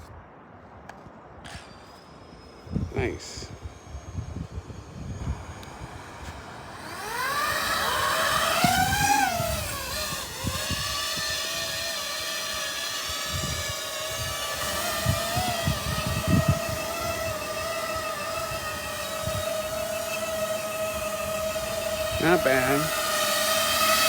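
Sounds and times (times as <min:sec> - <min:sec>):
drone propellers whining: 0:01.4 - 0:24.0.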